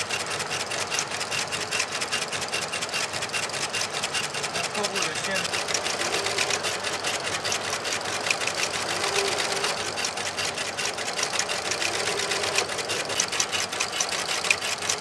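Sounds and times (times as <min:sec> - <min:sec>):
stitching machine clatter: 0:00.0 - 0:15.0.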